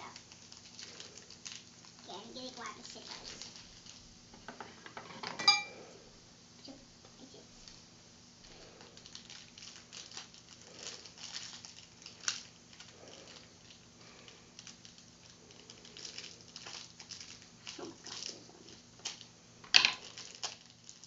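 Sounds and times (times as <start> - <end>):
plastic wrapping rustling and tearing: 0.0 - 4.2, 7.6 - 21.0.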